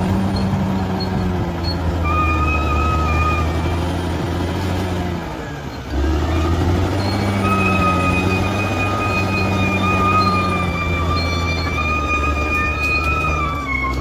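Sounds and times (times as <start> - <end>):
bulldozer diesel engine: 0.0 - 14.0.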